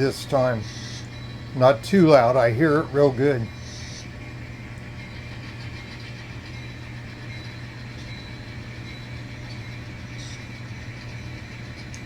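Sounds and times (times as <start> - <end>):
low diesel engine hum: 0.0 - 12.0.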